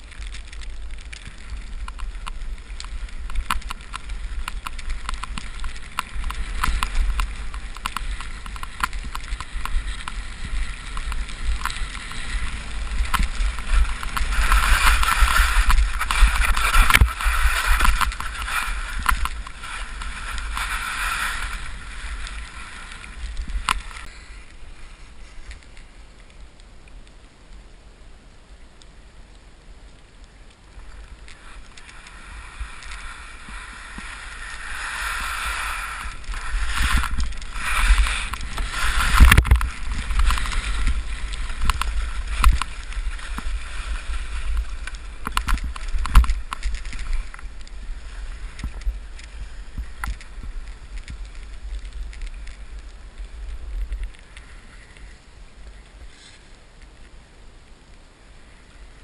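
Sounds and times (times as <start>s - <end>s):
skis scraping through snow: 0.0s - 26.4s, 30.3s - 57.2s
wind rumbling on microphone: 0.0s - 59.0s.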